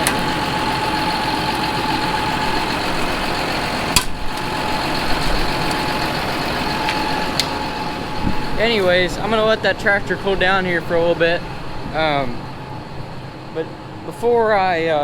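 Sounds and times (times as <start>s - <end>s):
steady whine: 0.0s - 15.0s
tractor diesel engine idling: 0.0s - 15.0s.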